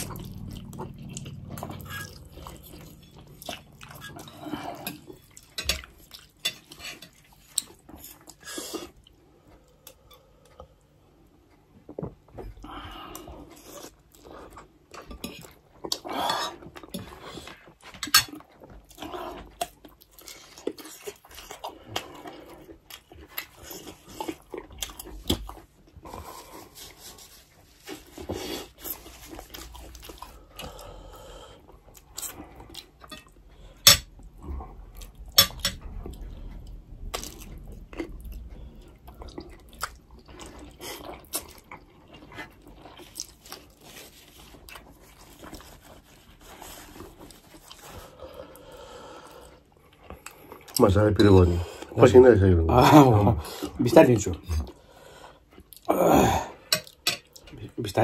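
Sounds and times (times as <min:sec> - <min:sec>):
slurping and chewing noodles: 0:00.0 - 0:57.5.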